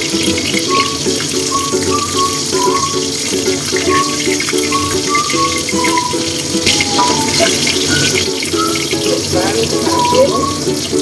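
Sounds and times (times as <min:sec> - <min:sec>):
background music: 0:00.0 - 0:11.0
oil sizzling in a wok: 0:00.0 - 0:11.0.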